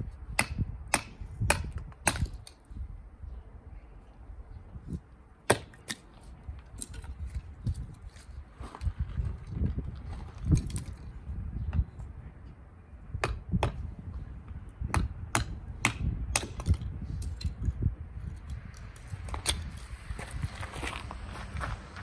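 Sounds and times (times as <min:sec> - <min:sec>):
wind buffeting microphone: 0:00.0 - 0:05.3, 0:06.1 - 0:22.0.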